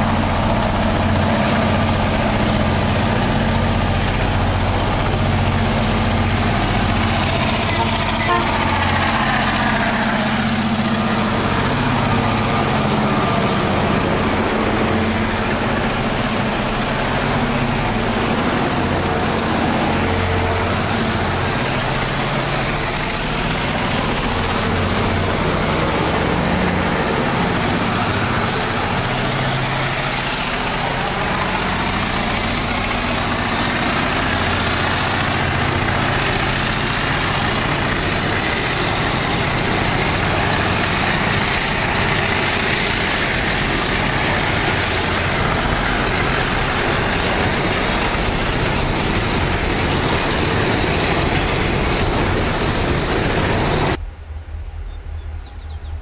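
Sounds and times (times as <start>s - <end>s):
mechanical rolling noise: 0.0s - 54.4s
diesel locomotives droning: 0.0s - 56.0s.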